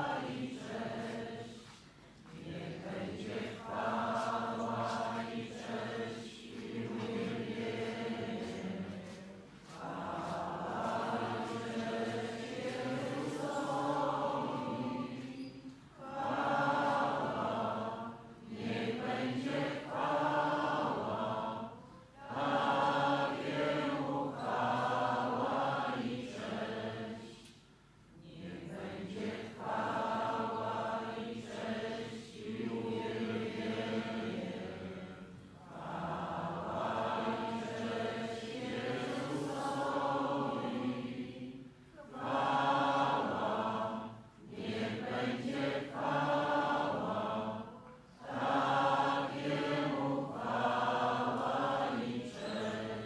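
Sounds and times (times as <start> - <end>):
voices singing a hymn: 0.0 - 53.0.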